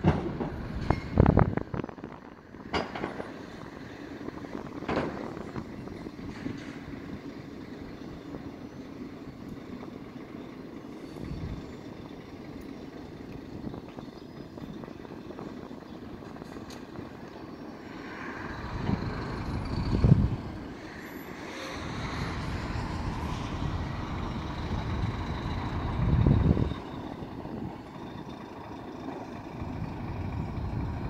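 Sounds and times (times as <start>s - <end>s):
heavy vehicle engine rumble: 0.0s - 31.0s.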